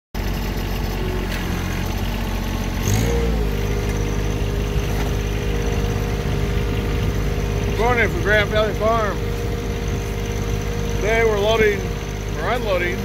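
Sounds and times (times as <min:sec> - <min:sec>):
tractor diesel engine running: 0:00.2 - 0:13.0.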